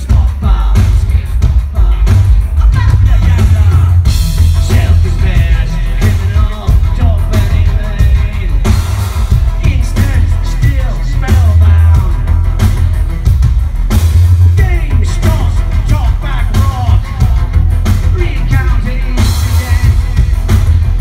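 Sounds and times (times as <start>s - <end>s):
person singing: 0.0s - 12.4s, 14.6s - 20.6s
guitar: 0.0s - 21.0s
heavy bass and drums: 0.0s - 21.0s
industrial rock band playing live: 0.0s - 21.0s.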